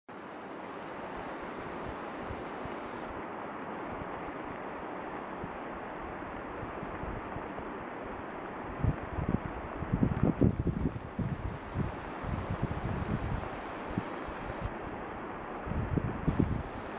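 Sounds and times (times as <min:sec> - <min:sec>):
stream water rushing: 0:00.1 - 0:16.9.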